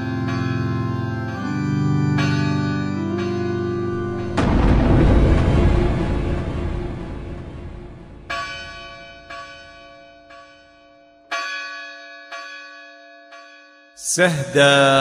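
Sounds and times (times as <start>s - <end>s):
church bell tolling: 0.0s - 6.4s, 8.0s - 14.6s.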